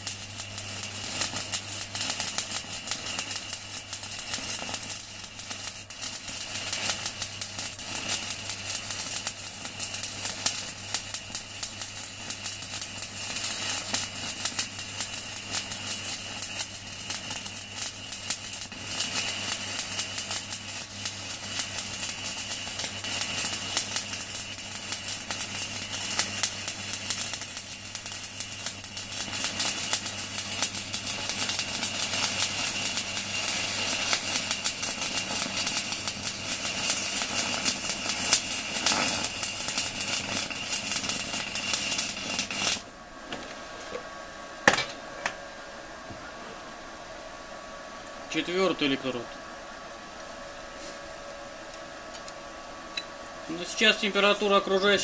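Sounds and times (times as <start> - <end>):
welding arc crackling sizzle: 0.0 - 44.0, 47.7 - 55.0
faint fan hum: 0.0 - 55.0.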